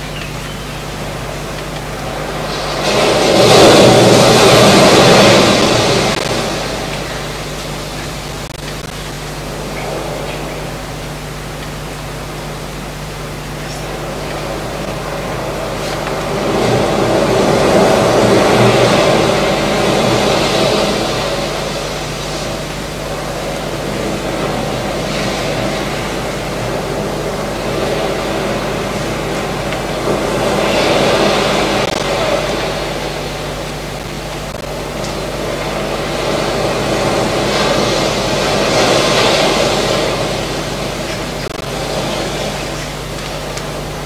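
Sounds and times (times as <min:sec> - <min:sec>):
sea surf washing: 0:00.0 - 0:44.0
steady low hum: 0:00.0 - 0:44.0.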